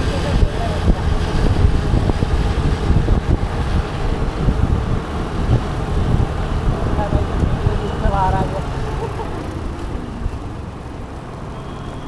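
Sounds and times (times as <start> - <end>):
wind buffeting microphone: 0.0 - 11.2
scooter engine and road rumble: 0.0 - 12.0.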